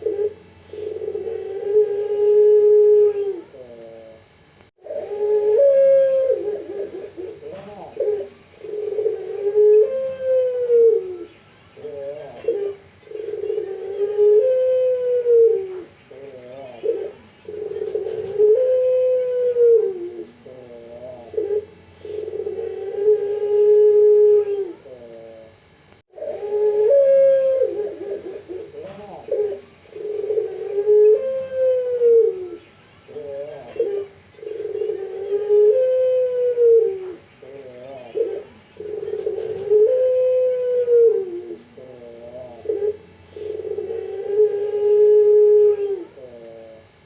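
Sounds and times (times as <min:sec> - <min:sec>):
dove cooing: 0:00.0 - 0:47.0.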